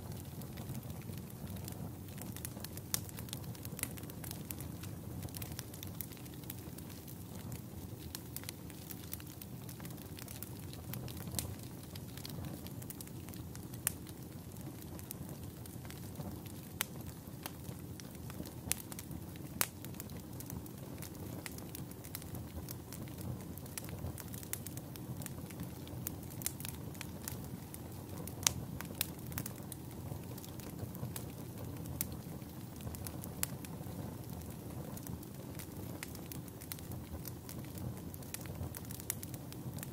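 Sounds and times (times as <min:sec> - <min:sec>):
campfire flames rumbling: 0:00.0 - 0:39.9
wood crackling and popping: 0:00.0 - 0:39.9.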